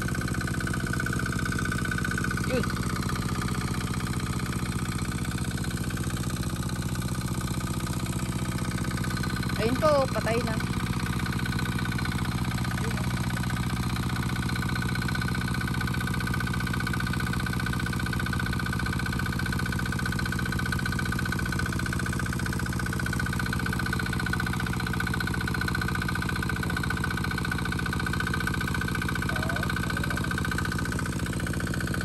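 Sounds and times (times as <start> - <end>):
water pump engine running: 0.0 - 32.0.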